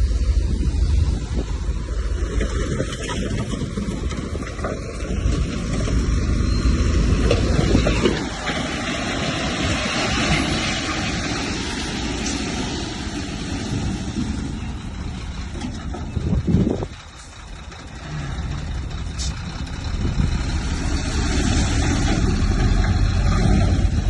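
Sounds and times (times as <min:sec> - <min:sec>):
heavy machinery engine rumble: 0:00.0 - 0:24.0.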